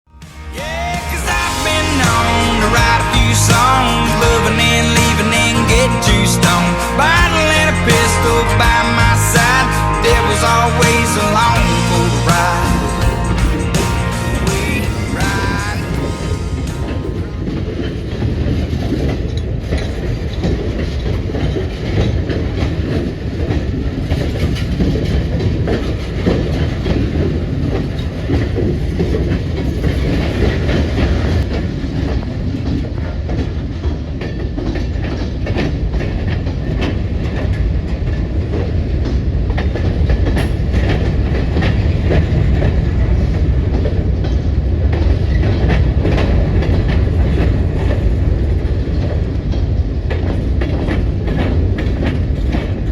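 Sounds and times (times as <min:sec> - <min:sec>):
freight train rumbling past: 0:00.1 - 0:52.9.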